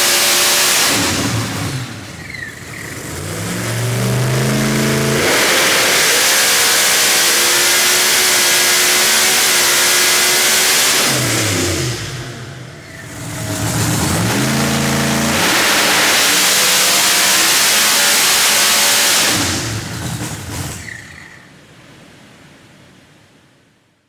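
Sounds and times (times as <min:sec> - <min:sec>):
engine revving on a dyno: 0:00.0 - 0:20.0
high supercharger whine: 0:00.0 - 0:20.0.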